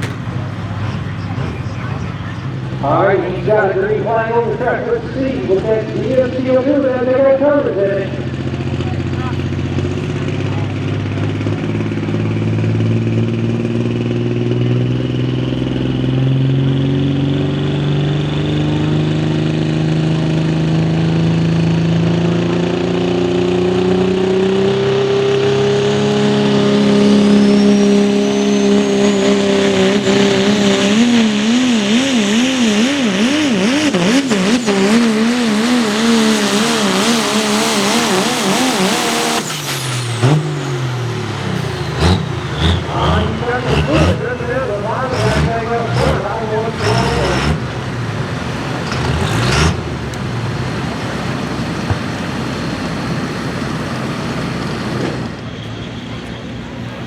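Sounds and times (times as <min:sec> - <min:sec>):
diesel truck engine under heavy load: 0:00.0 - 0:57.0.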